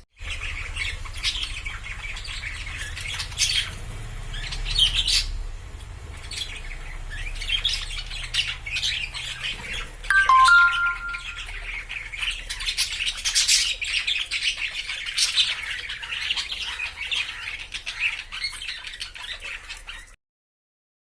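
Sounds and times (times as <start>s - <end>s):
budgerigars chattering and squawking: 0.2s - 20.2s.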